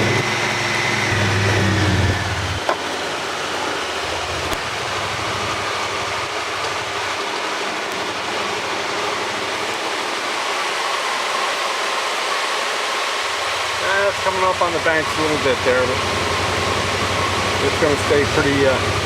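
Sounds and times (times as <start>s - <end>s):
river rushing: 1.6s - 17.6s.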